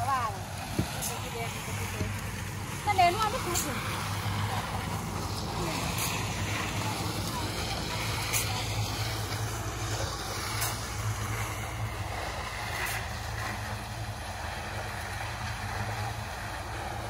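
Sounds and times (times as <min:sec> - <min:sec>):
concrete mixer humming: 0:00.0 - 0:17.0.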